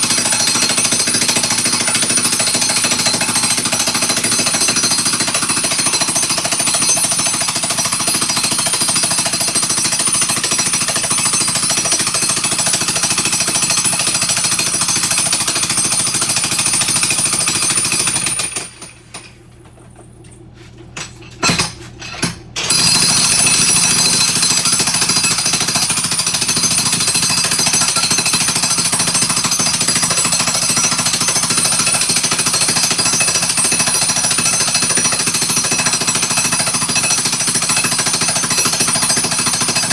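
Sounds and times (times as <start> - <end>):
jackhammer breaking floor tile: 0.0 - 19.3, 21.4 - 39.9.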